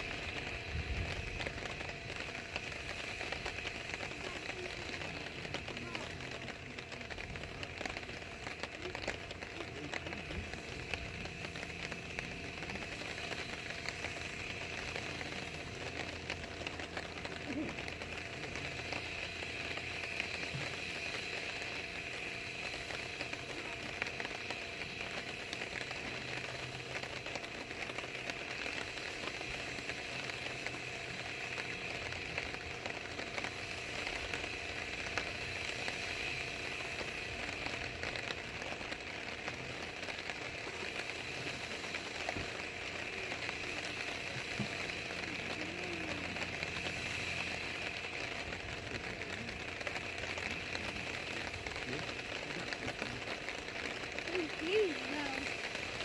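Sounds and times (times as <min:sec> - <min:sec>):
light rain pattering: 0:00.0 - 0:56.0.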